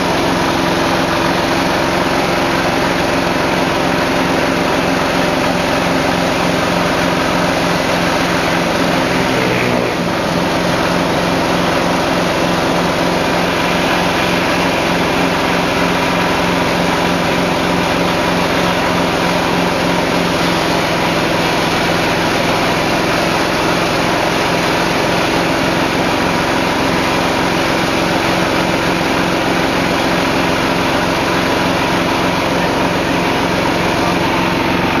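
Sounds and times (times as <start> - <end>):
feed chopping machine droning: 0.0 - 35.0.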